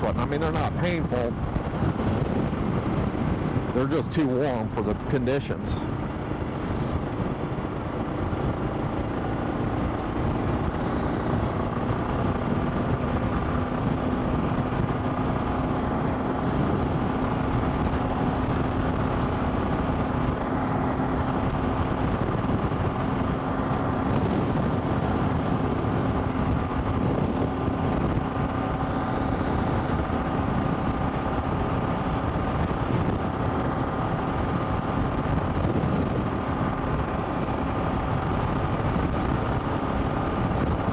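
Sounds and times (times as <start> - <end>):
road and wind noise: 0.0 - 40.9
motorcycle engine running: 5.8 - 40.9.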